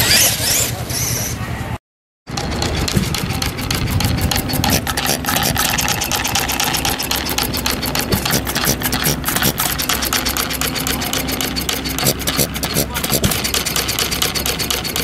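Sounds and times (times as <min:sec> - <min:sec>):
machinery clattering: 0:02.3 - 0:15.0
steady hum: 0:02.8 - 0:15.0.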